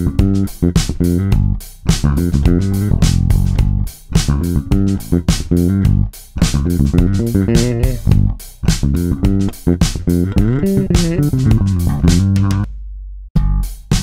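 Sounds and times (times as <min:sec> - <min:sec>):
electric bass plucked notes: 0:00.0 - 0:12.8, 0:13.4 - 0:14.0.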